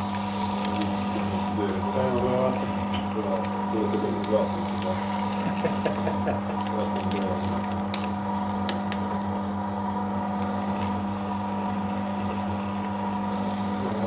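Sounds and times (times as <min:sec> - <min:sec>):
paper shredder motor hum: 0:00.0 - 0:14.0.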